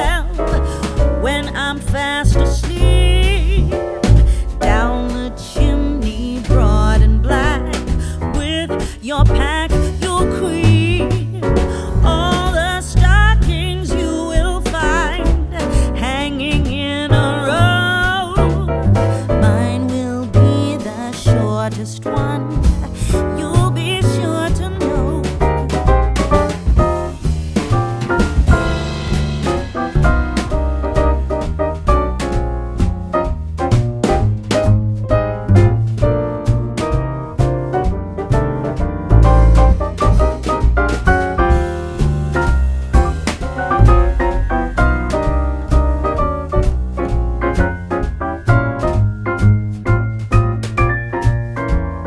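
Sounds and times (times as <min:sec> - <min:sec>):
jazzy instrumental music: 0:00.0 - 0:52.0.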